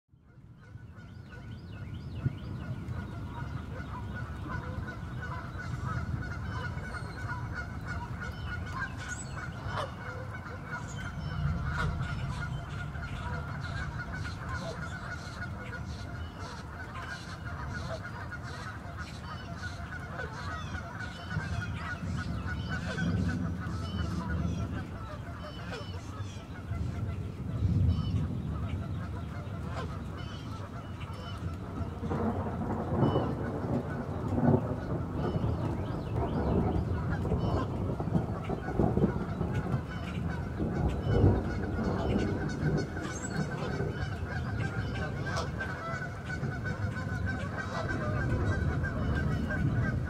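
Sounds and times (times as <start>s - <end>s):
rain pattering on a lake: 0.1s - 50.0s
distant thunder rumbling: 0.6s - 50.0s.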